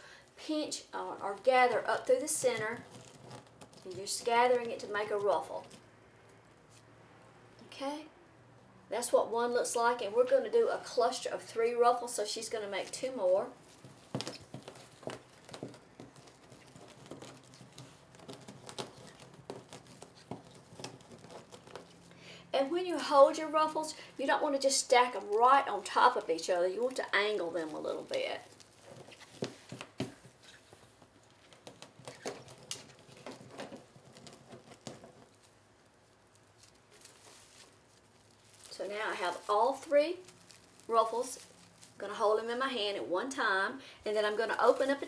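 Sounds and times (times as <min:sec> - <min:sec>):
fabric mesh rustling and crackling: 0:00.0 - 0:06.9, 0:08.9 - 0:45.0
light ticks and crinkles: 0:00.1 - 0:06.9, 0:09.9 - 0:43.4.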